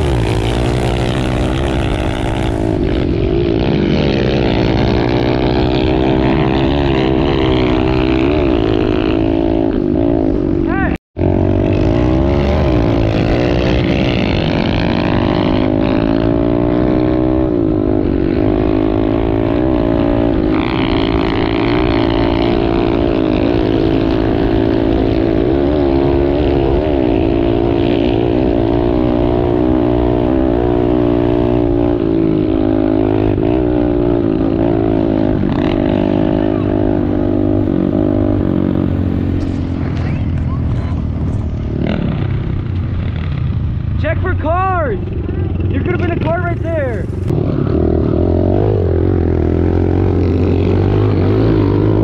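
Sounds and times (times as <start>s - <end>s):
pit bike engines revving: 0.0s - 52.0s.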